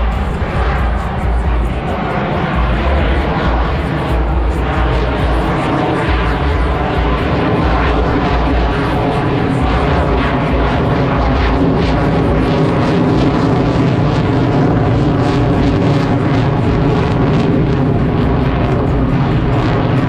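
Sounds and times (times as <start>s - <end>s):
jet engine roar with whine: 0.0s - 20.0s.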